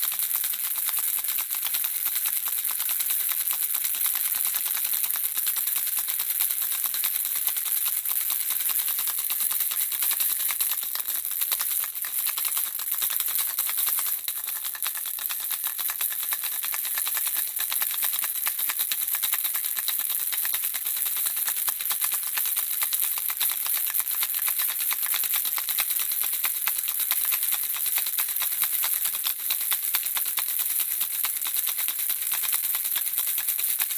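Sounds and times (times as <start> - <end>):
baby rattle shaken: 0.0 - 33.9.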